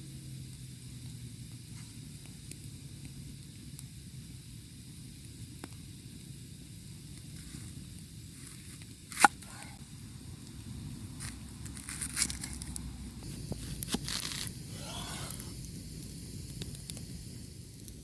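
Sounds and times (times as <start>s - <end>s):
food frying sizzle: 0.0s - 18.0s.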